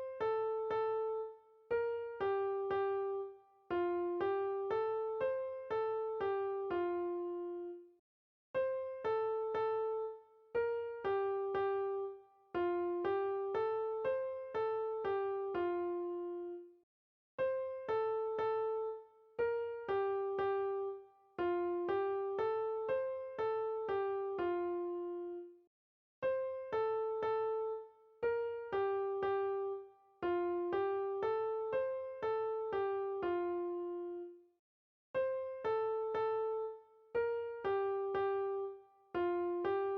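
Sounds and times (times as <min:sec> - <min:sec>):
gentle piano melody: 0:00.0 - 0:07.9, 0:08.6 - 0:16.7, 0:17.4 - 0:25.5, 0:26.2 - 0:34.4, 0:35.2 - 0:39.9.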